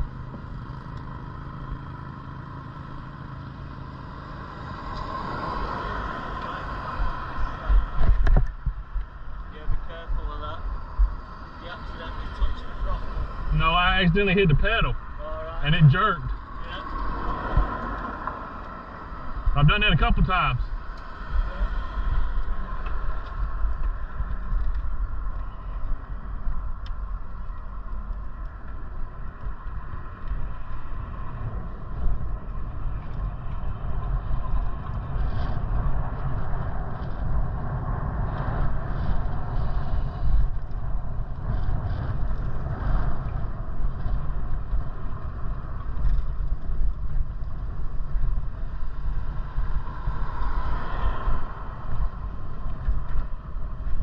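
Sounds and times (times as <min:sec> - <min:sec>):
wind buffeting microphone: 0:04.5 - 0:54.0.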